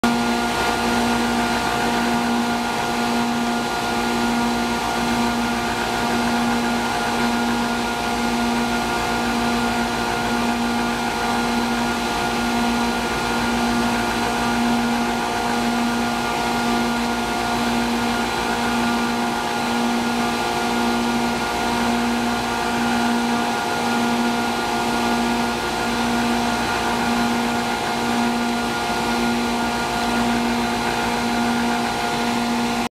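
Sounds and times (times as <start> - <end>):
air compressor drone: 0.0 - 32.9.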